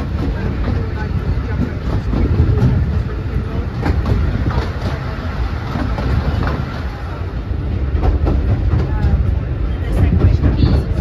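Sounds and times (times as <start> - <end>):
track clicks and clacks: 0.0 - 11.0
train wheels rumbling: 0.0 - 11.0.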